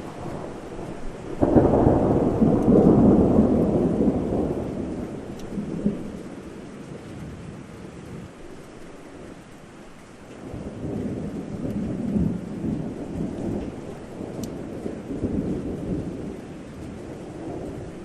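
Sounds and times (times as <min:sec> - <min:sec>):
thunder rumbling: 0:00.0 - 0:09.4, 0:10.0 - 0:18.0
rain hiss: 0:00.0 - 0:18.0.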